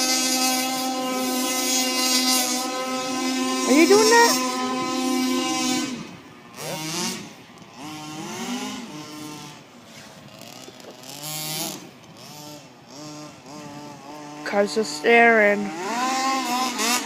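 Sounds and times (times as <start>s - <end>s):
small two-stroke engine revving: 0.0s - 17.0s.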